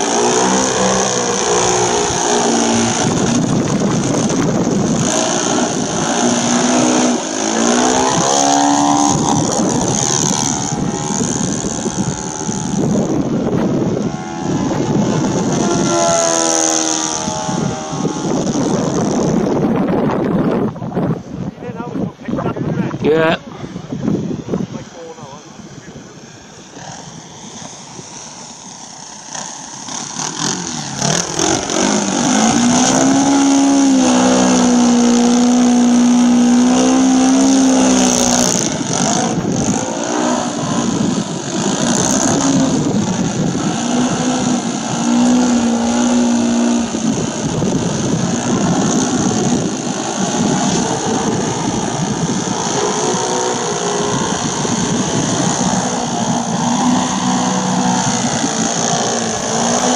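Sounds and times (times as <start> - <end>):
model plane motor and propeller: 0.0 - 59.9.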